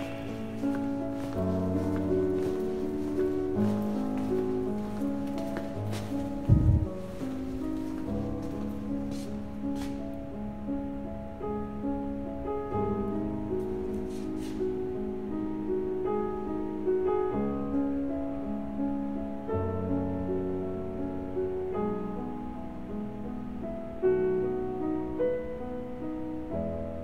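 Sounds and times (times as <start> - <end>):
slow piano music: 0.0 - 27.0.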